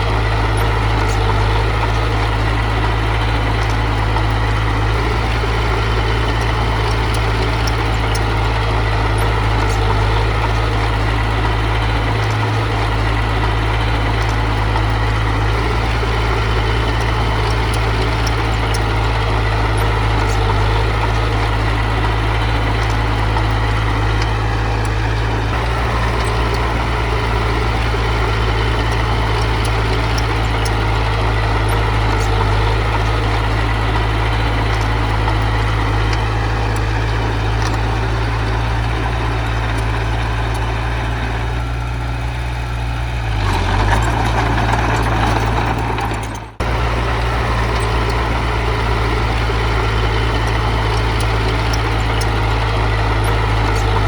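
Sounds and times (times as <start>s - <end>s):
heavy diesel engine rumbling: 0.0s - 54.0s.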